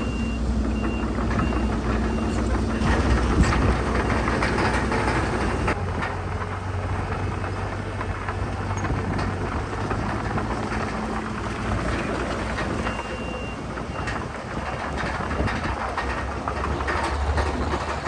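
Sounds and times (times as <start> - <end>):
heavy diesel machinery running: 0.0 - 18.0
rock and dirt crackling: 0.5 - 18.0.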